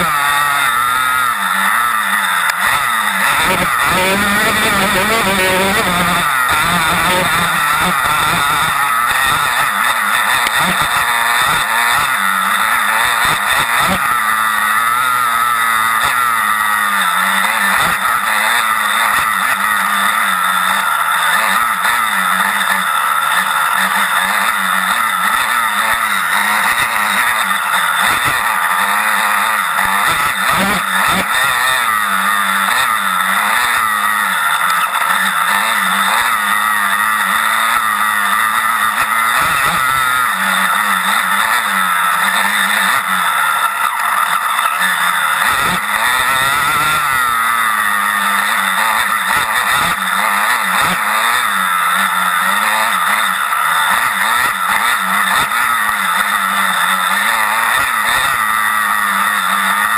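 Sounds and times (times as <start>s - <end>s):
off-road motorcycle engine revving: 0.0s - 59.9s.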